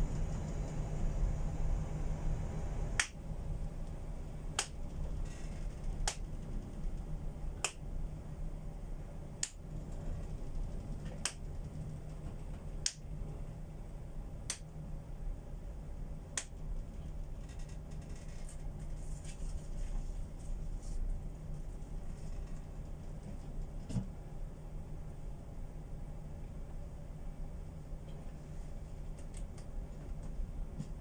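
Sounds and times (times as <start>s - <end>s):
low ship rumble: 0.0s - 31.0s.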